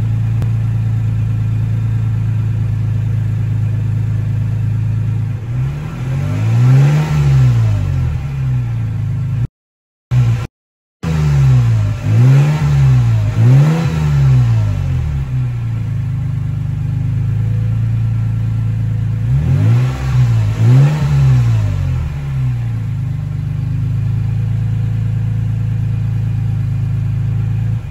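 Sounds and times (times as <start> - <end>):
engine revving and idling: 0.0 - 9.5, 10.1 - 27.9.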